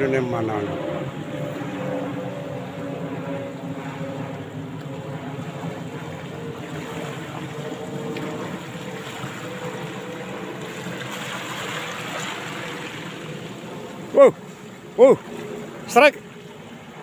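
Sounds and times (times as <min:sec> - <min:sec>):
small waves washing on sand: 0:00.0 - 0:17.0.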